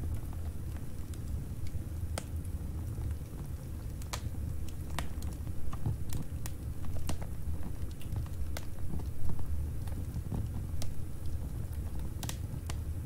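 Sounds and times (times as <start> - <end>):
fire crackles and pops: 0.0 - 13.0
fire flames rumbling: 0.0 - 13.0.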